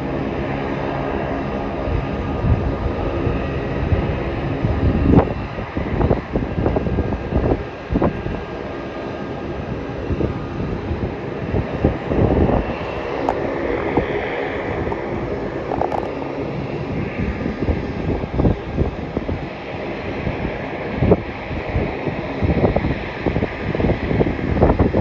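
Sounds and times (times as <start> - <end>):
jet engines whining: 0.0 - 25.0
wind buffeting microphone: 0.0 - 25.0.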